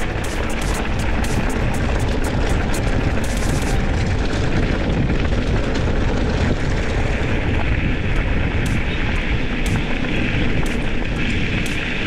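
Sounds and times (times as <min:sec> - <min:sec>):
bike rattles and clicks: 0:00.0 - 0:12.0
wind buffeting microphone: 0:00.0 - 0:12.0.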